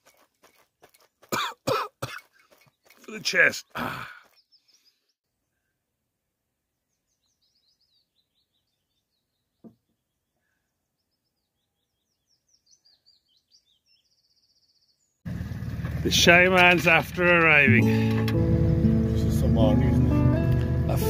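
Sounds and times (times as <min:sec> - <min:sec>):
songbird chirping: 0:02.2 - 0:15.3, 0:16.9 - 0:21.0.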